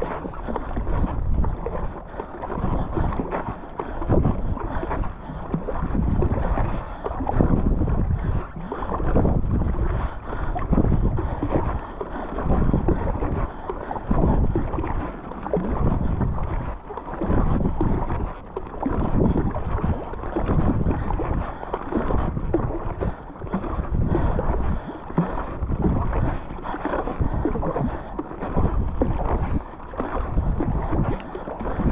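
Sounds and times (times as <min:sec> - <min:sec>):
paddle splashing water: 0:00.0 - 0:31.9
wind buffeting microphone: 0:00.0 - 0:31.9.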